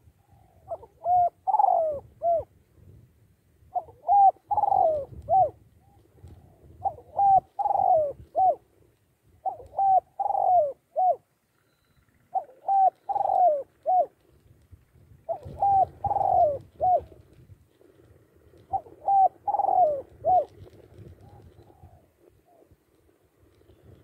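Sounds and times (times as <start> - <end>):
dove cooing: 0.0 - 2.6, 3.7 - 8.8, 9.4 - 14.4, 15.1 - 24.0.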